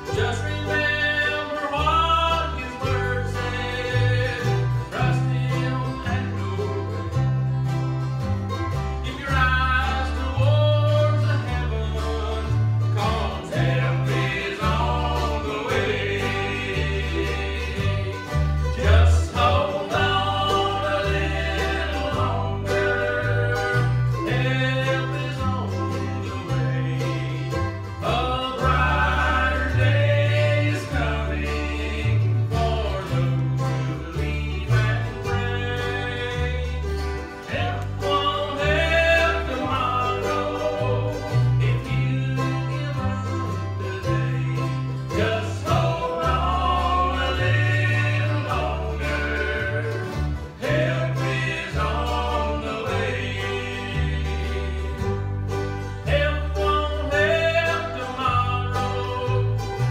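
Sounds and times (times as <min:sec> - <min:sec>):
bluegrass band playing: 0:00.0 - 0:59.9.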